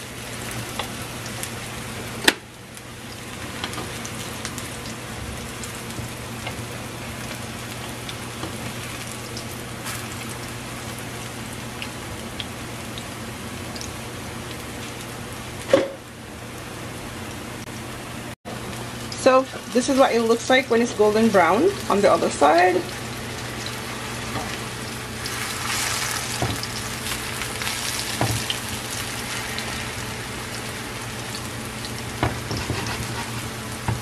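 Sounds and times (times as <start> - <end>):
slices frying in oil: 0.0 - 16.6, 18.5 - 34.0.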